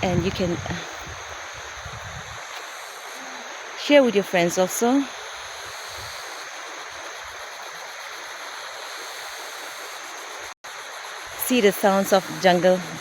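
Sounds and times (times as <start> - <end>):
insects droning: 0.0 - 13.0
steady hiss: 0.0 - 13.0.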